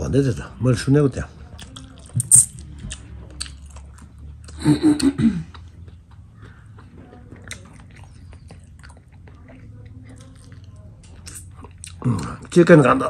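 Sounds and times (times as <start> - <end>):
person chewing food: 1.4 - 12.6.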